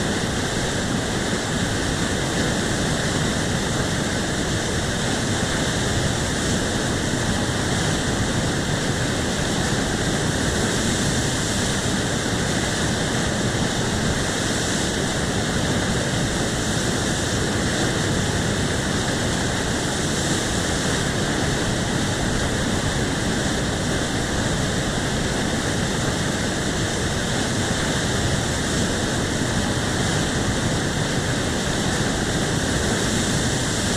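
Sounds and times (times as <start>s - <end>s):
whitewater rapids rushing: 0.0s - 33.9s.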